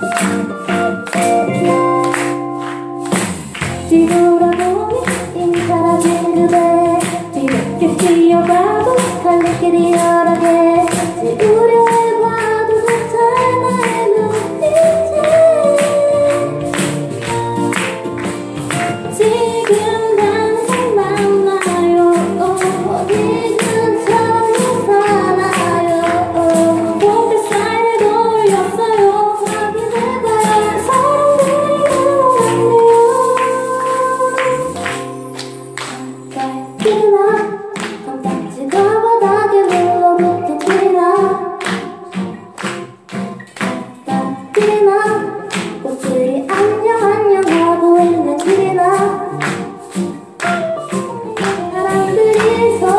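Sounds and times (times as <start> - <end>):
person singing: 0.0 - 17.9, 18.6 - 42.9, 43.8 - 52.9.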